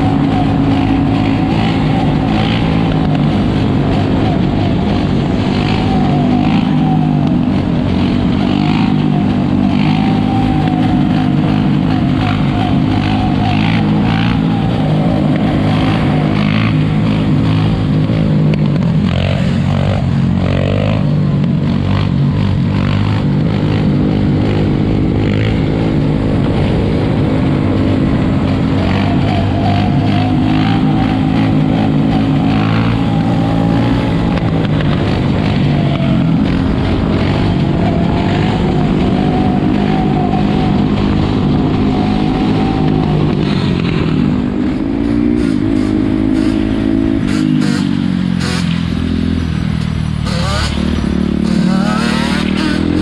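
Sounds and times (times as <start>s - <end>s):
atv engines revving: 0.0s - 53.0s.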